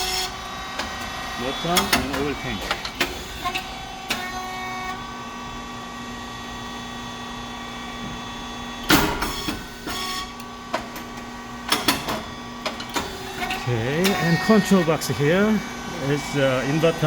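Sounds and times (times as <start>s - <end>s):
pump motor humming: 0.0s - 17.0s.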